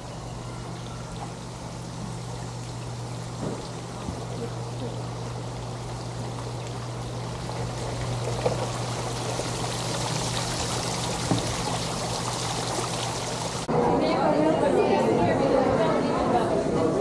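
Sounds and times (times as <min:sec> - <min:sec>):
fountain jets splashing into pool: 0:00.0 - 0:13.7.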